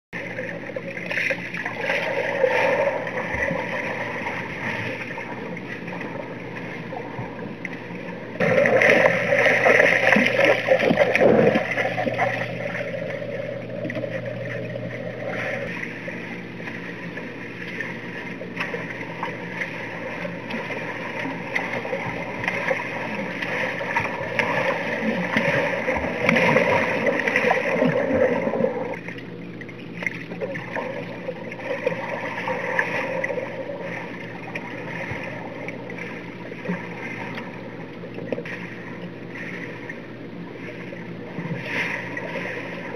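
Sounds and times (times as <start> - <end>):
steady low hum: 0.1 - 42.9
bubbles: 0.2 - 42.9
underwater swimming strokes: 0.2 - 42.9.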